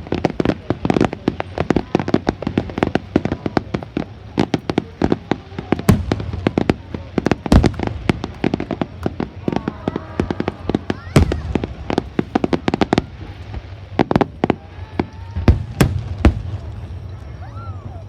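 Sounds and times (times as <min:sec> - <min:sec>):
fireworks bangs and crackles: 0:00.0 - 0:18.0
heavy fireworks booms: 0:00.0 - 0:18.0.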